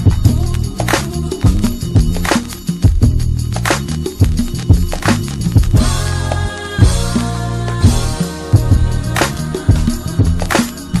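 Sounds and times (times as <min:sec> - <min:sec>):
music with strong drum beat: 0:00.0 - 0:11.0
steady bass line: 0:00.0 - 0:11.0.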